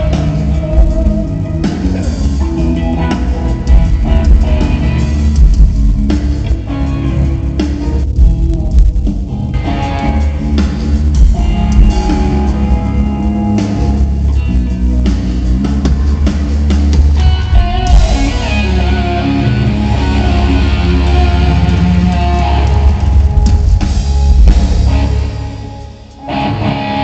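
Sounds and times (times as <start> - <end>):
bass guitar: 0.0 - 27.0
drum kit: 0.0 - 27.0
electric guitar: 0.0 - 27.0.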